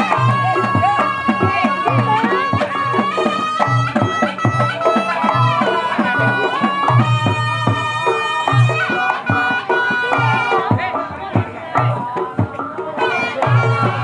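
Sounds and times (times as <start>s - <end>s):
double-reed shawm melody: 0.0s - 14.0s.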